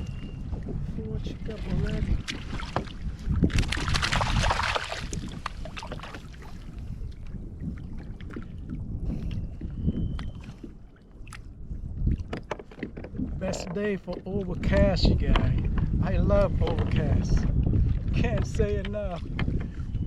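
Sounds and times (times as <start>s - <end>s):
water against boat hull: 0.0s - 20.0s
wind on microphone: 0.0s - 20.0s.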